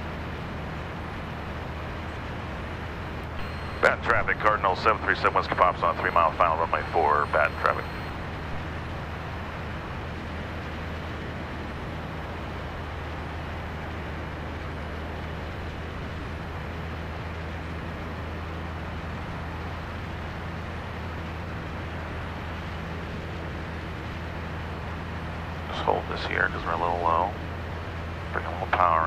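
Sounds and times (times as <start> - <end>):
light aircraft engine droning: 0.0 - 29.0.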